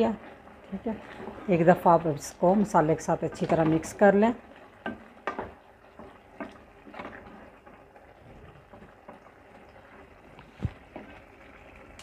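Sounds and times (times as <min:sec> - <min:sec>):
liquid bubbling: 0:00.0 - 0:12.0
spatula stirring vegetables in pot: 0:00.0 - 0:12.0.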